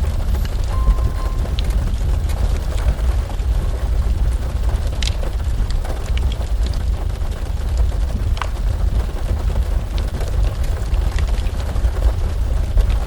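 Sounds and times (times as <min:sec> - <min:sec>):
deep rumble: 0:00.0 - 0:13.0
fireplace crackles: 0:00.0 - 0:13.0.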